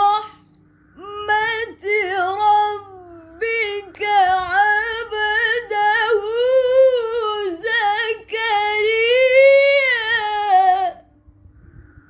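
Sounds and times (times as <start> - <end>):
woman chanting recitation: 0.0 - 11.2.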